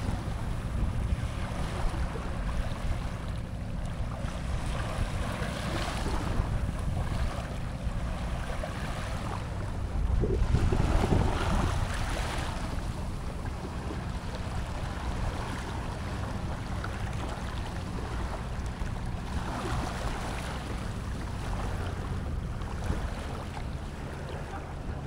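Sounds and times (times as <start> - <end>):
small waves lapping: 0.0 - 25.0
wind buffeting microphone: 0.0 - 25.0.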